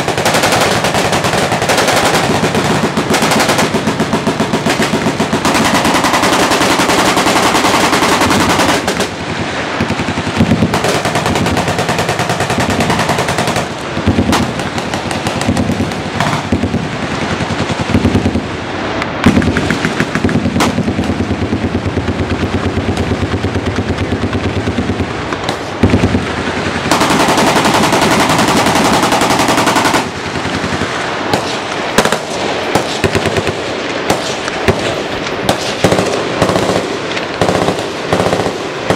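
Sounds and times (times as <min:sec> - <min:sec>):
machine guns firing: 0:00.0 - 0:18.5, 0:19.2 - 0:38.9.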